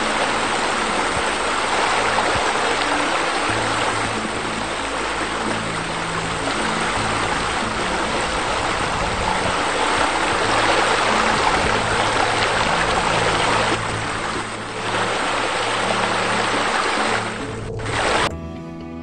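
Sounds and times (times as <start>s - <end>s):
water pouring into pool: 0.0s - 18.3s
soft background music: 0.0s - 19.0s.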